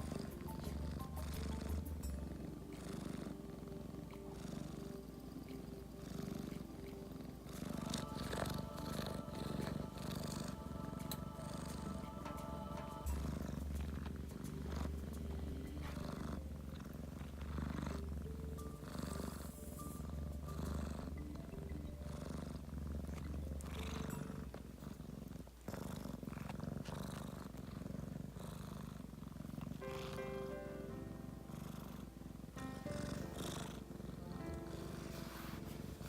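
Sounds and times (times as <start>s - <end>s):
kitten purring: 0.0s - 36.0s.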